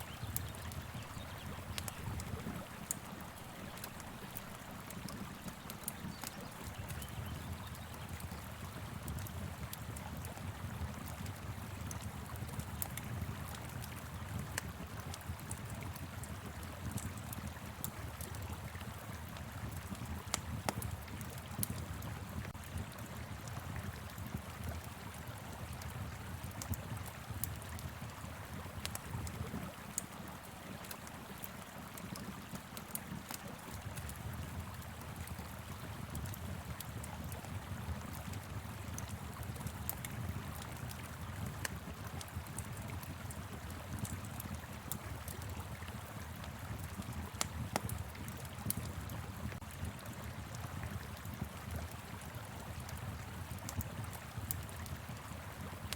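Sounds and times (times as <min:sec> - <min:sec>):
river water flowing: 0:00.0 - 0:10.4, 0:21.0 - 0:55.9
wind: 0:00.0 - 0:55.9
wood fire crackling and popping: 0:00.0 - 0:55.9.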